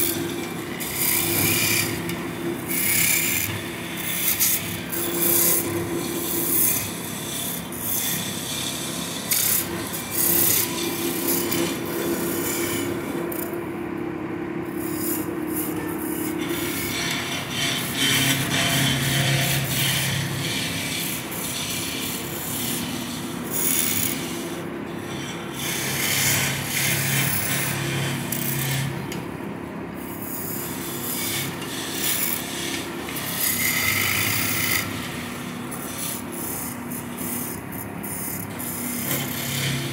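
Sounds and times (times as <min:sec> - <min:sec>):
wood lathe humming: 0:00.0 - 0:13.5, 0:15.8 - 0:29.0, 0:30.4 - 0:39.9
tool scraping spinning wood: 0:00.0 - 0:13.6, 0:14.8 - 0:29.0, 0:30.2 - 0:39.9.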